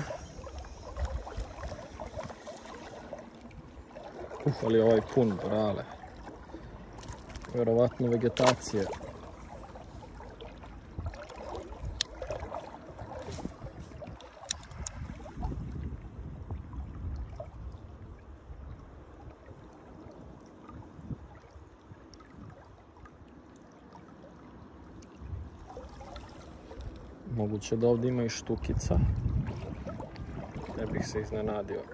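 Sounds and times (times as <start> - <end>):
river water flowing and lapping: 0.0 - 31.9.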